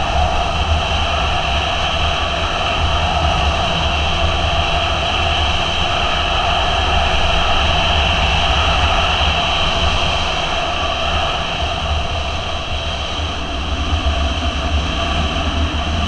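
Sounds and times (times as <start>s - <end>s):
wind rush on microphone: 0.0s - 16.0s.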